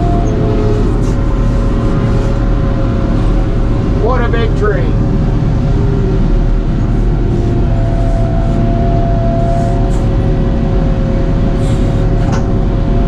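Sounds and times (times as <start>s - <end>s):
harvester engine running: 0.0s - 13.0s
machine whining tones: 0.0s - 13.0s.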